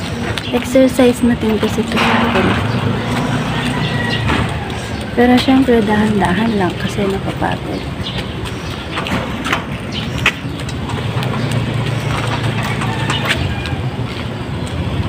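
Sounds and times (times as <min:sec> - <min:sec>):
low vehicle engine hum: 0:00.0 - 0:15.0
street noise: 0:00.0 - 0:15.0.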